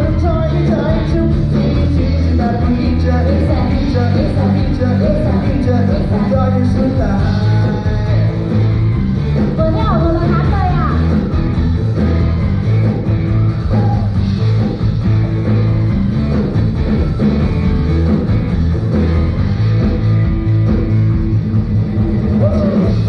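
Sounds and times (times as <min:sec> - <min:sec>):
live band instrumental: 0:00.0 - 0:23.0.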